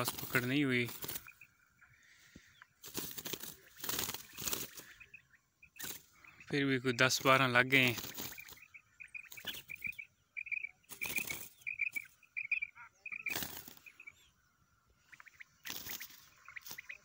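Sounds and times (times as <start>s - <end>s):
quail beating its wings: 0.0s - 1.6s, 2.7s - 14.3s, 15.0s - 17.0s
birds chirping: 0.0s - 17.0s.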